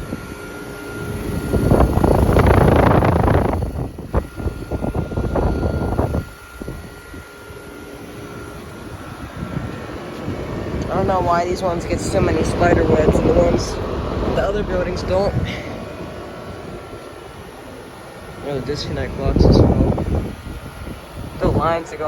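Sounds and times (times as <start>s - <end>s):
air conditioning units whooshing: 0.0s - 22.0s
faint high whine: 0.0s - 22.0s.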